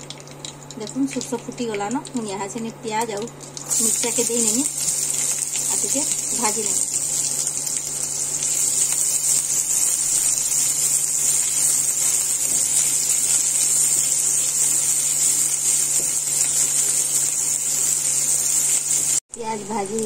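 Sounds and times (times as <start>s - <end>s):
onions sizzling in hot oil: 3.0s - 20.0s.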